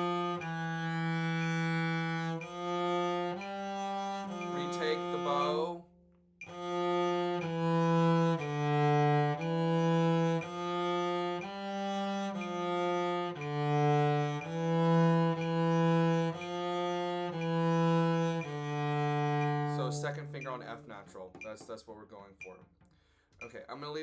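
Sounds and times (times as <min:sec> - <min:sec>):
cello playing slow melody: 0:00.0 - 0:05.8, 0:06.4 - 0:21.0.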